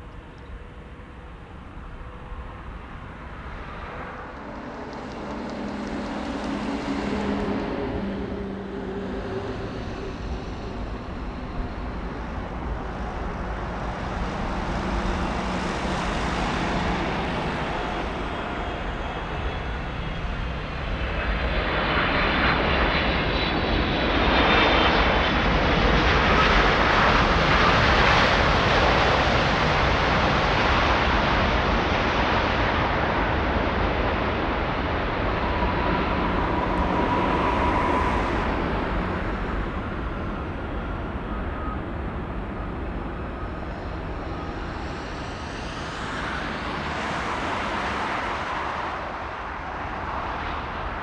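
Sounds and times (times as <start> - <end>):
high engine whine: 0.0 - 51.0
jet engines rushing: 0.0 - 51.0.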